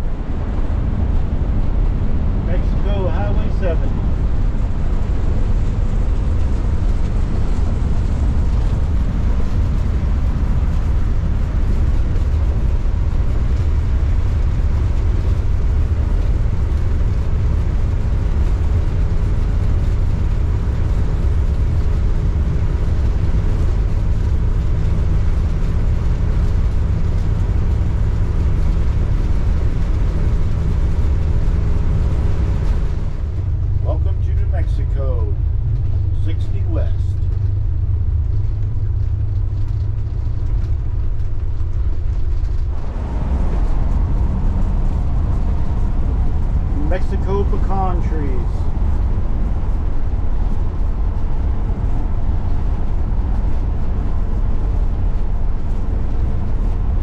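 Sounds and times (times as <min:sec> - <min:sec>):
engine and road rumble: 0:00.0 - 0:57.0
faint steady hum: 0:00.0 - 0:57.0.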